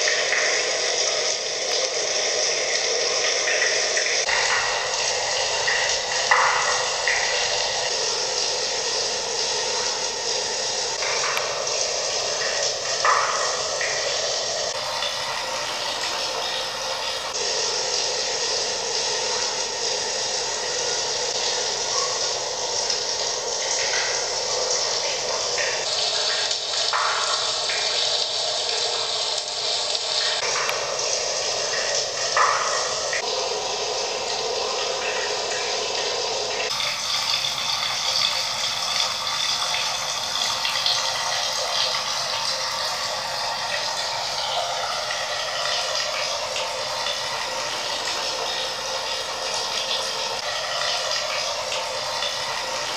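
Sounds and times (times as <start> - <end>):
running water trickling: 0.0 - 52.9.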